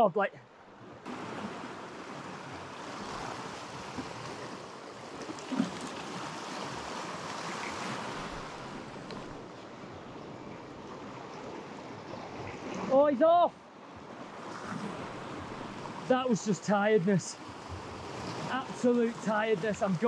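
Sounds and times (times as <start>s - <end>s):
surf washing against rocks: 1.1s - 13.5s, 14.2s - 20.0s.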